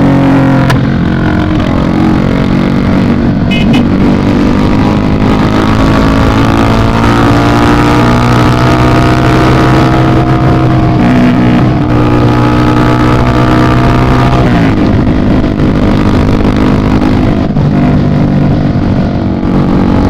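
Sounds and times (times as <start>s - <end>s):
motorcycle engine through loud exhaust: 0.0s - 20.0s.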